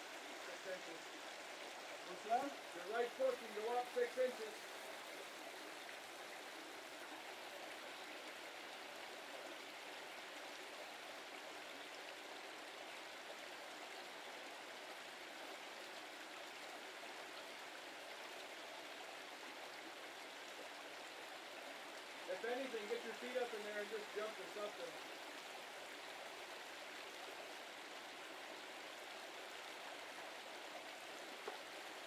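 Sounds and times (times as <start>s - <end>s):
brook water rushing: 0.0s - 32.0s.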